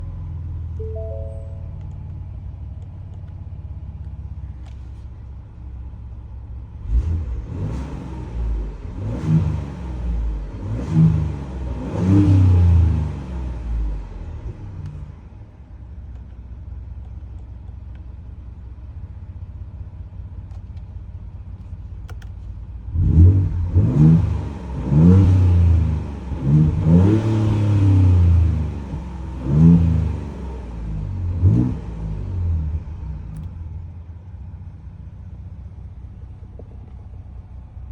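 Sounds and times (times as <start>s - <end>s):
engine idling and revving: 0.0s - 1.0s, 1.6s - 37.9s.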